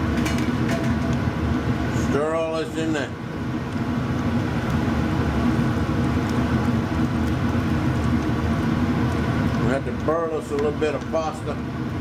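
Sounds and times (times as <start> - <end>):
fan whooshing hum: 0.0 - 12.0.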